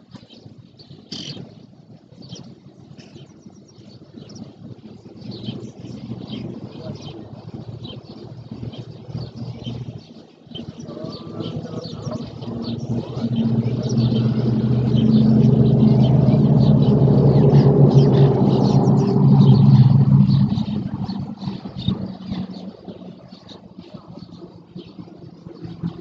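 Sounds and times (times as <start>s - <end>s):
small birds chirping: 2.2s - 26.0s
engine hum approaching: 4.9s - 26.0s.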